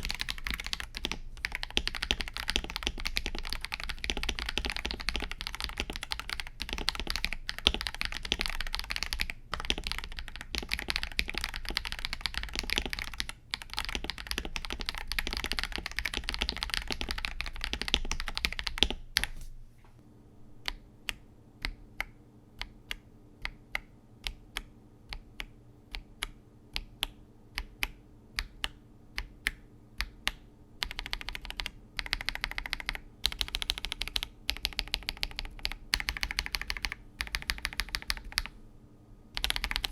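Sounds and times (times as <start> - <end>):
mechanical keyboard typing: 0.0 - 19.4, 20.6 - 38.6, 39.4 - 39.9.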